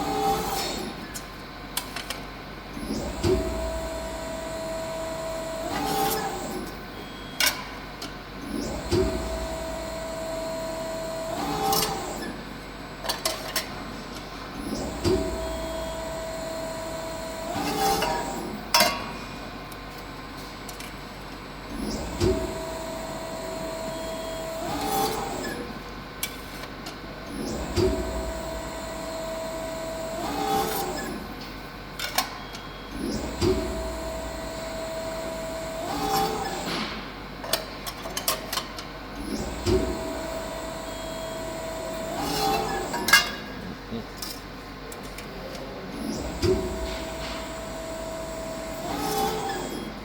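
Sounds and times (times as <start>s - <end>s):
hydraulic press humming: 0.0s - 1.2s, 2.7s - 19.6s, 21.5s - 31.5s, 32.1s - 50.0s.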